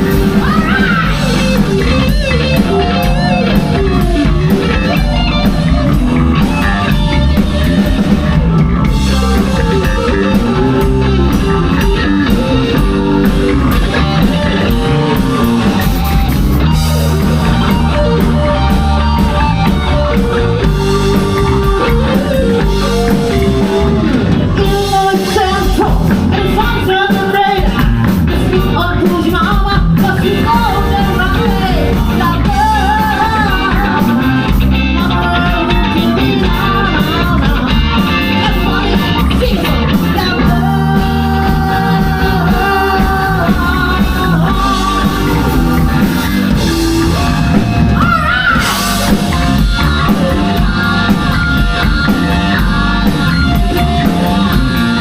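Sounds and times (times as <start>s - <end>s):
live rock band with singing: 0.0s - 55.0s.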